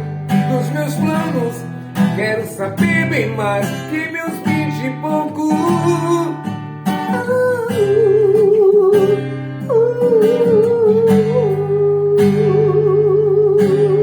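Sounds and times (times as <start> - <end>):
person singing with vibrato: 0.0 - 14.0
strummed acoustic guitar: 0.0 - 14.0.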